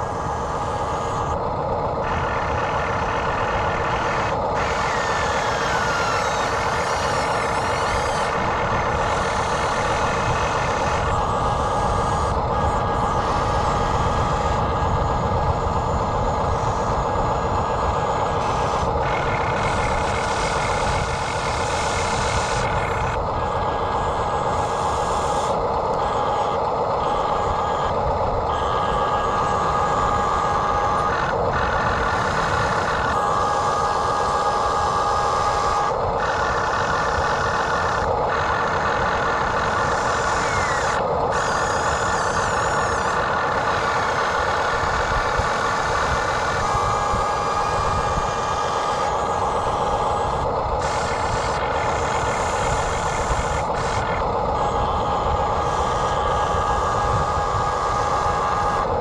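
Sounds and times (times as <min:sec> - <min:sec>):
diesel engine running: 0:00.0 - 0:59.0
steady machine whine: 0:00.0 - 0:59.0.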